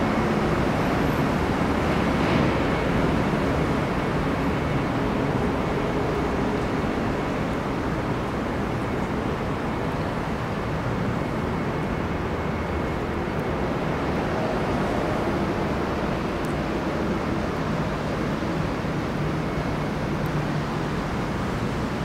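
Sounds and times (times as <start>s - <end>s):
diesel locomotive engine rumble: 0.0s - 22.0s.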